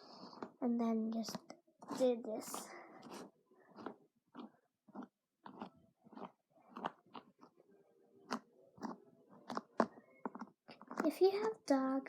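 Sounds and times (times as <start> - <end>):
faint crunching and rustling: 0.1 - 7.6, 8.2 - 12.0.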